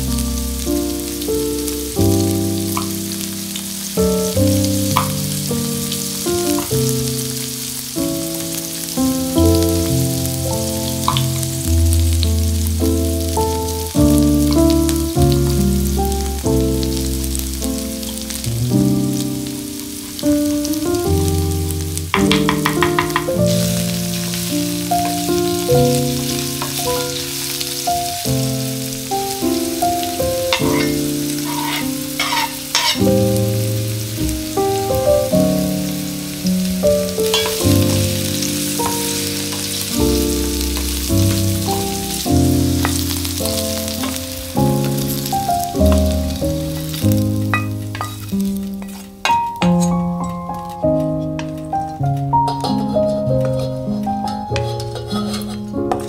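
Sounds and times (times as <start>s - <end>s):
background music: 0.0s - 48.7s
vegetables sizzling in oil: 0.0s - 56.0s.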